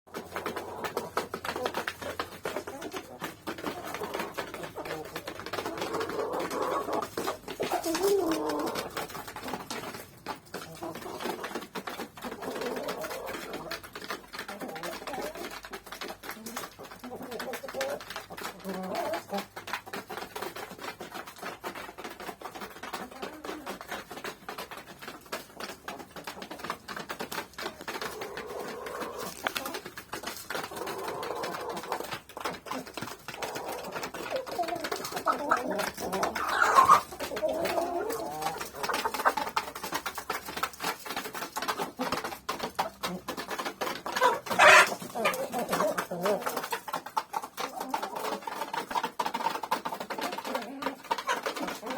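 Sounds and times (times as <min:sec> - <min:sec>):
hens clucking: 0:00.1 - 0:51.9.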